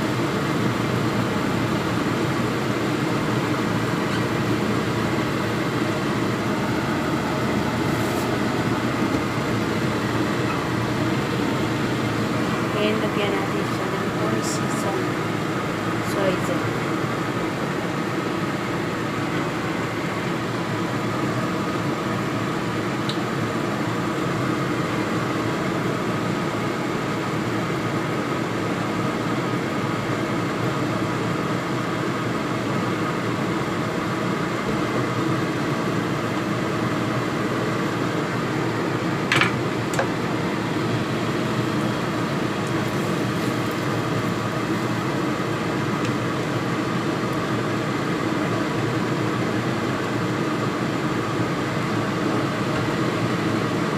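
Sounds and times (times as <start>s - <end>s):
fan-like hum with faint whine: 0.0s - 53.9s.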